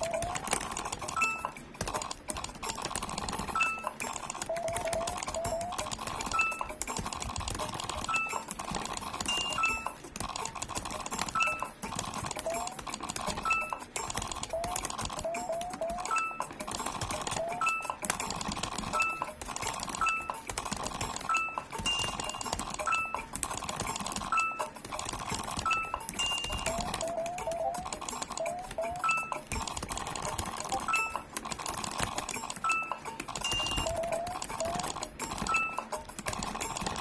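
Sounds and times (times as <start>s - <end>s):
keyboard key clicks: 0.0s - 37.0s.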